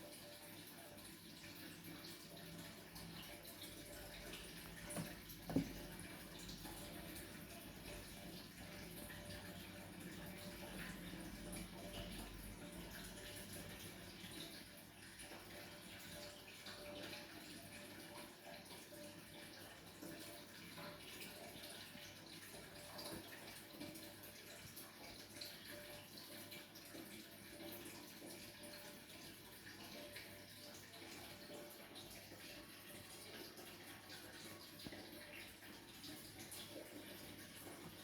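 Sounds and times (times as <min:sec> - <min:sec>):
water trickling in aquarium filter: 0:00.0 - 0:38.0.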